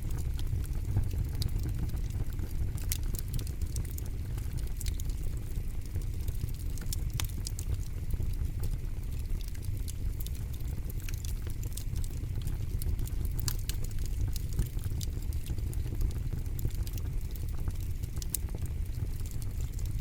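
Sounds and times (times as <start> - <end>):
wood campfire crackling: 0.0 - 20.0.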